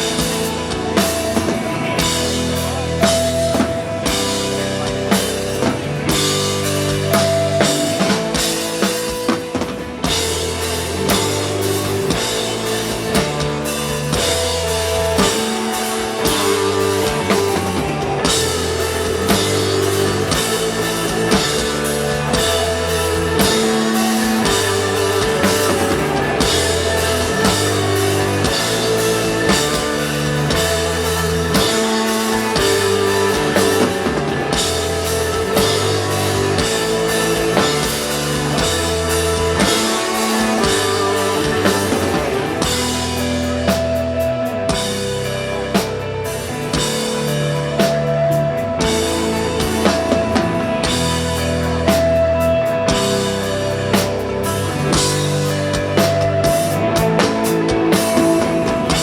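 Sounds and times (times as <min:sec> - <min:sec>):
bass line: 0:00.0 - 0:59.0
drum kit beat: 0:00.0 - 0:59.0.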